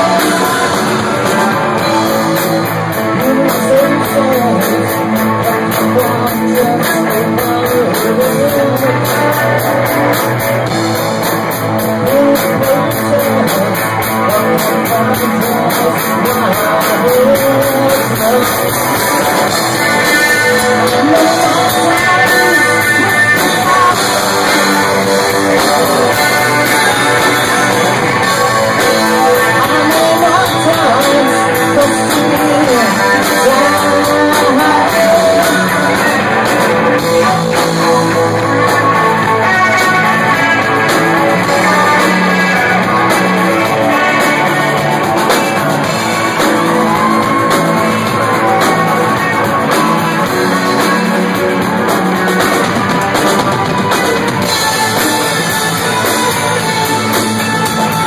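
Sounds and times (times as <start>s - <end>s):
bass guitar: 0.0s - 58.0s
drums: 0.0s - 58.0s
electric guitar: 0.0s - 58.0s
person singing: 0.0s - 58.0s.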